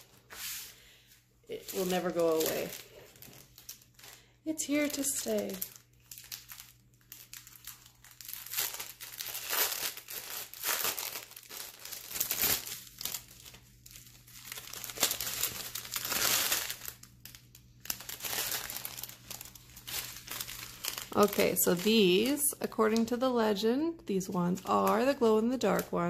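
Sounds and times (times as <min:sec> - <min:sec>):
plastic bags crinkling: 0:00.0 - 0:23.2, 0:24.5 - 0:26.0.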